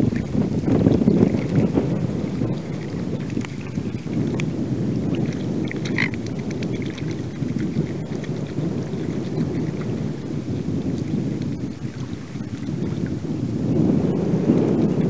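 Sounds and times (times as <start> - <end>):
water splashes: 0.0 - 13.4
wind buffeting microphone: 0.0 - 15.0.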